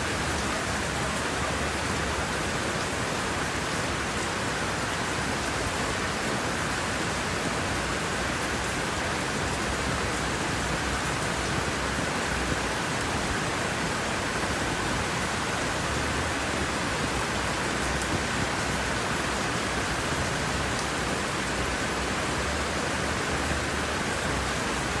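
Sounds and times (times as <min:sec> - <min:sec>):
rain falling on leaves: 0:00.0 - 0:25.0.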